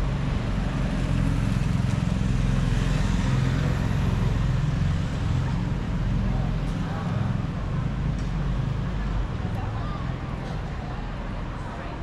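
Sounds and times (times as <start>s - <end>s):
city street noise rumble: 0.0s - 12.0s.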